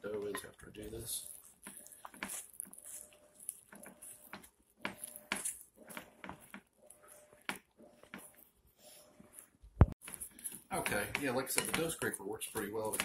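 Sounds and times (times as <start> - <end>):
wooden spoon scraping glass bowl: 0.2 - 13.0.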